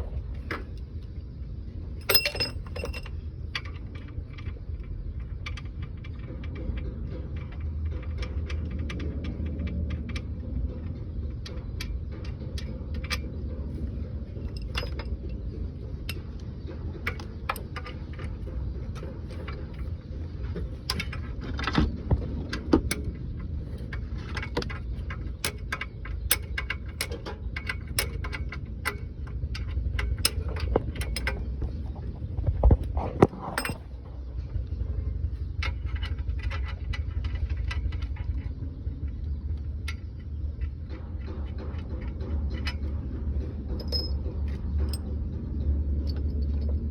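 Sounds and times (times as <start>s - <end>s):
steady low rumble: 0.0s - 46.9s
metal tools clinking on truck parts: 1.9s - 34.2s, 35.3s - 45.3s, 46.0s - 46.9s.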